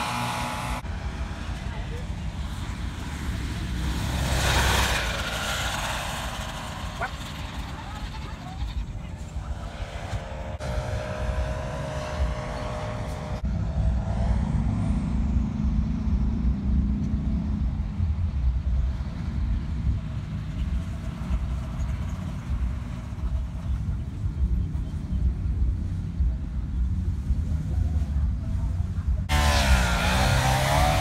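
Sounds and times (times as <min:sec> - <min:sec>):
paramotor engine droning: 0:00.0 - 0:31.0.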